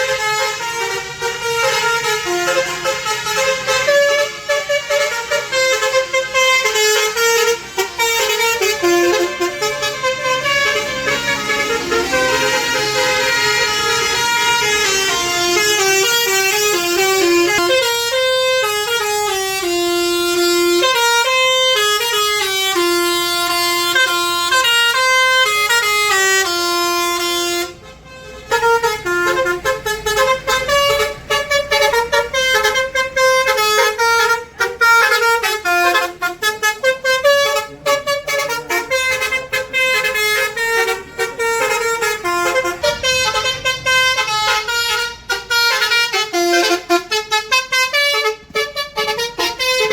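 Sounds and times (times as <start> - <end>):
bus multi-tone horns playing melodies: 0.0 - 49.9.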